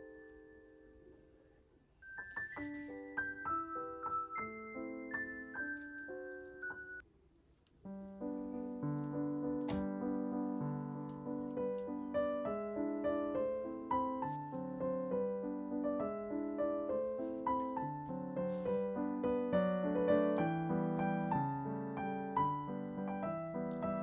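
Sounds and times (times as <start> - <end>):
piano music: 0.0 - 7.0, 7.8 - 24.0.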